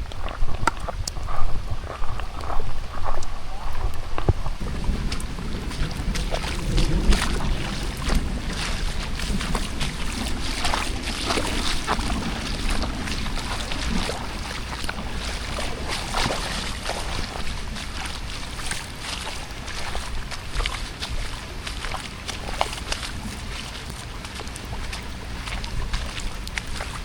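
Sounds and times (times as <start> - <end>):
rain drops tapping: 0.0 - 27.0
wind rumble on microphone: 0.0 - 27.0.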